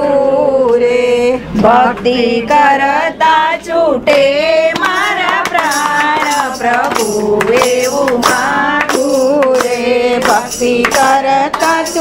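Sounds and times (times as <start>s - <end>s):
person singing devotional song: 0.0s - 12.0s.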